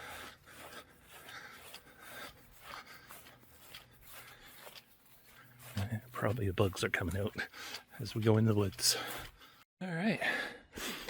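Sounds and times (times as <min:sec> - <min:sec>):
brush rustling: 0:00.0 - 0:09.7
faint footsteps on trail: 0:00.0 - 0:09.7.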